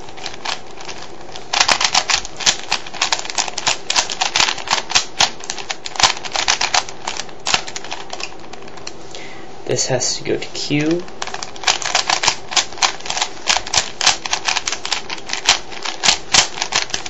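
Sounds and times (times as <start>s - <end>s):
puzzle cube plastic clicks: 0.1s - 9.0s, 10.9s - 17.0s.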